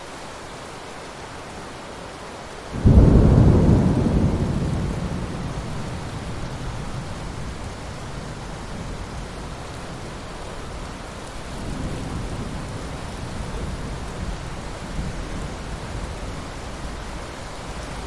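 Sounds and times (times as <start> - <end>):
rain falling on water: 0.0 - 18.0.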